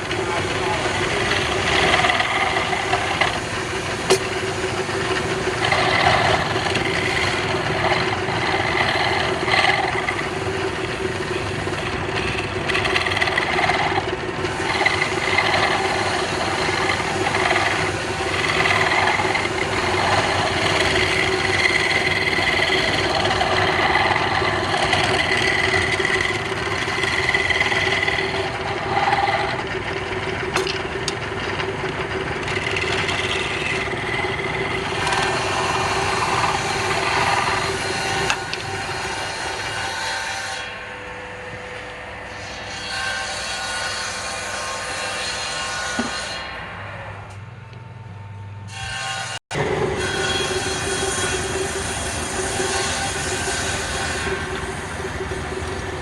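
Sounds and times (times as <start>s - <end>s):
lathe motor hum: 0.0s - 40.7s, 48.8s - 56.0s
tool cutting spinning wood: 0.0s - 40.8s, 42.1s - 46.6s, 48.8s - 56.0s.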